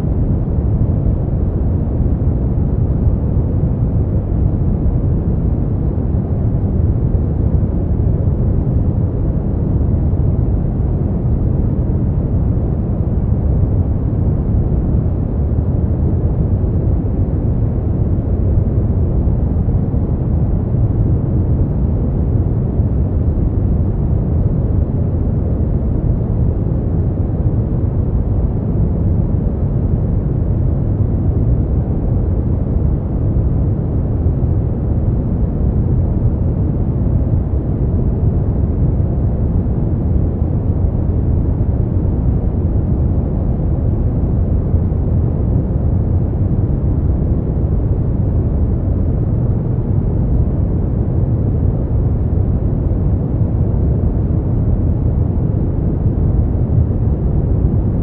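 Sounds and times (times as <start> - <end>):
deep muffled white noise: 0.0 - 58.0.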